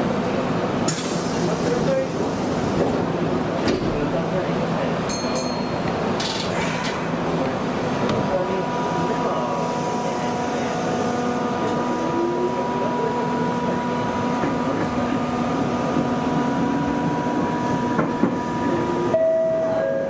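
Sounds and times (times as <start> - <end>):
train wheel and track rumble: 0.0 - 20.0.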